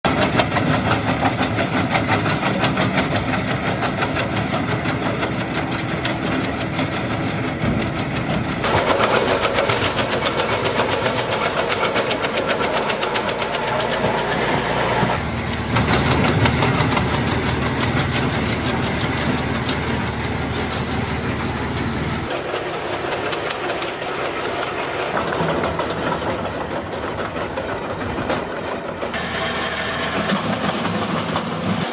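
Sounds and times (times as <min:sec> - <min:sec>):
wood chipper engine: 0:00.0 - 0:31.9.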